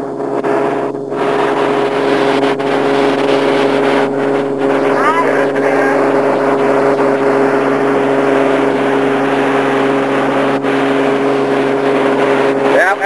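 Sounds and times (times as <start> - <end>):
boat engine droning: 0.0 - 13.0
rush of wind and water: 0.3 - 13.0.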